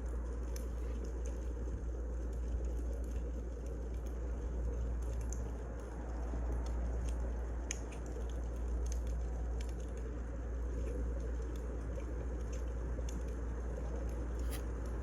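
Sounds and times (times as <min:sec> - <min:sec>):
fire rumbling: 0:00.0 - 0:15.0
firewood crackling and popping: 0:00.0 - 0:15.0.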